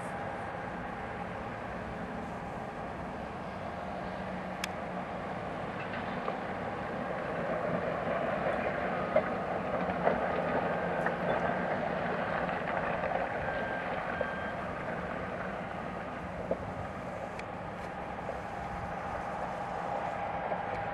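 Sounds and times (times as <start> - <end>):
distant heavy machinery rumble: 0.0 - 20.9.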